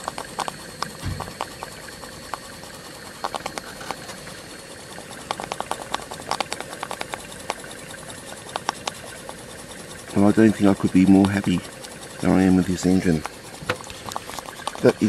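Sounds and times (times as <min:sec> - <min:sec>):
steam engine ticking: 0:00.0 - 0:15.0.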